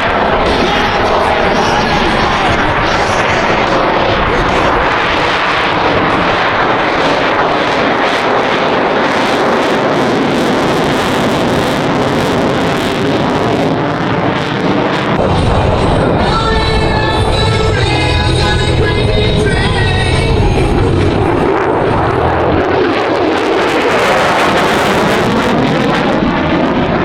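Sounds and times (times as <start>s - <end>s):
airplane engine noise: 0.0s - 27.0s.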